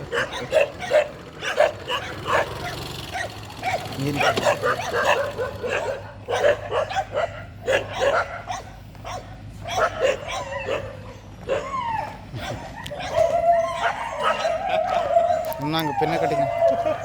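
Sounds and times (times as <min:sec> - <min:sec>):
dogs barking and yipping: 0:00.0 - 0:17.0
dogs whining: 0:00.0 - 0:17.0.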